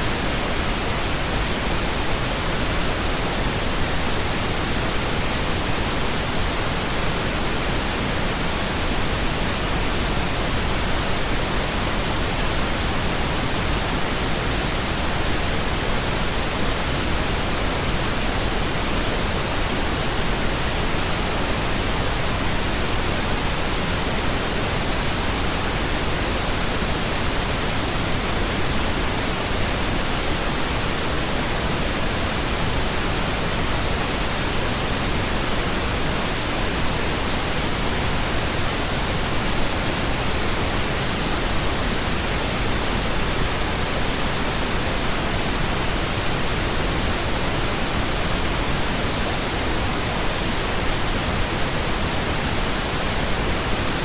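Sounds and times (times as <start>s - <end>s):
pink noise hiss: 0.0s - 54.0s.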